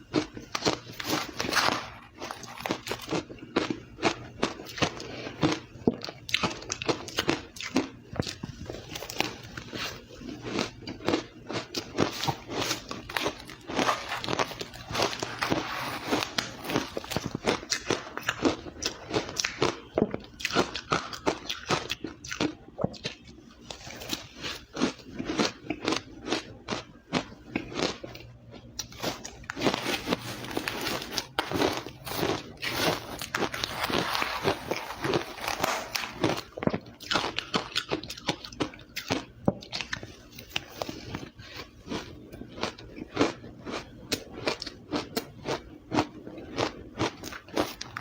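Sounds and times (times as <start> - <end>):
chewing crushed ice: 0.0 - 48.0.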